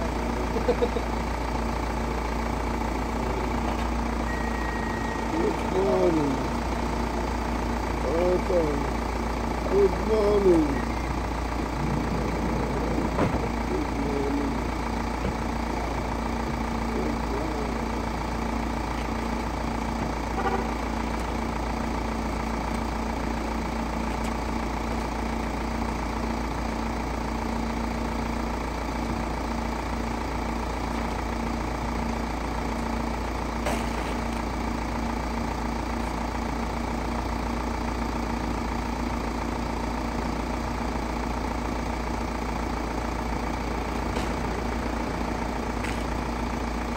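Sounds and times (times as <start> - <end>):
van engine idling: 0.0 - 46.9.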